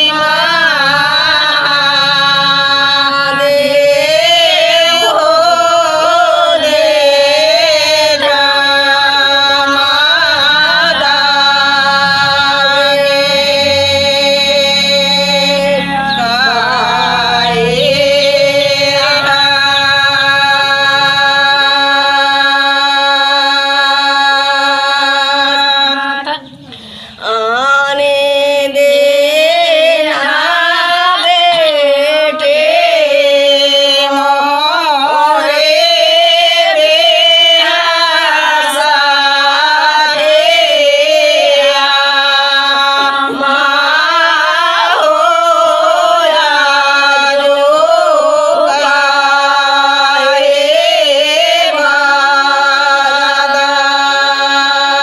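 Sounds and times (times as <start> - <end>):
women singing folk song: 0.0 - 55.0.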